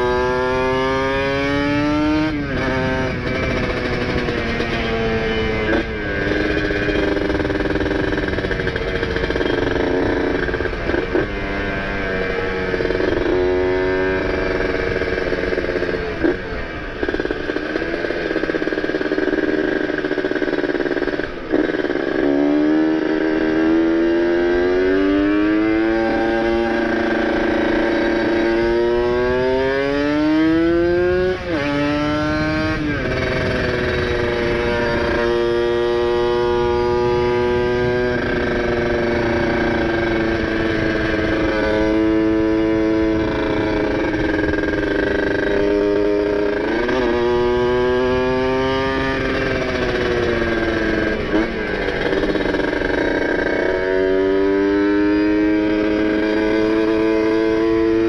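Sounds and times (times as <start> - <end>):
two-stroke motorcycle engine: 0.0 - 58.0.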